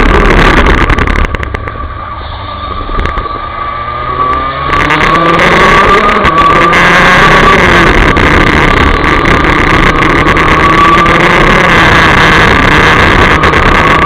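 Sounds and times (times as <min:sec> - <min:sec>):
two-stroke kart engine at high revs: 0:00.0 - 0:01.5, 0:03.2 - 0:14.0.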